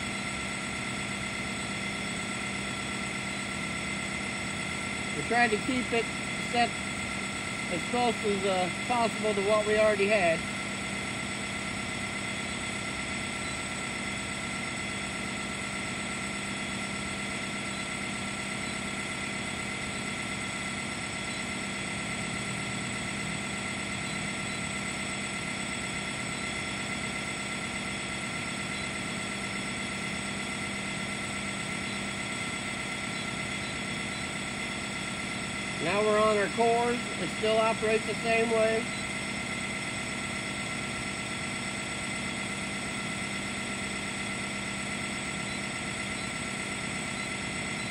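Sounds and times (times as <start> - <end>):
machinery drone: 0.0 - 47.9.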